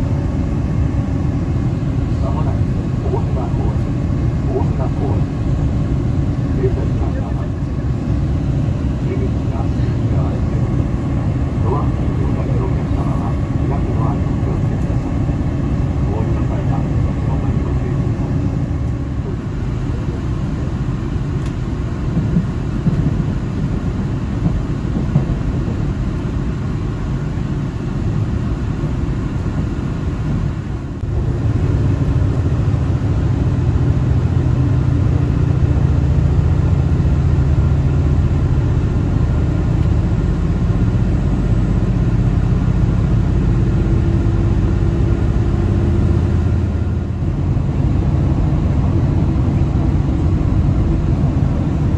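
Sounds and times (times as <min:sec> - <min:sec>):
train rumble inside passenger car: 0:00.0 - 0:51.9.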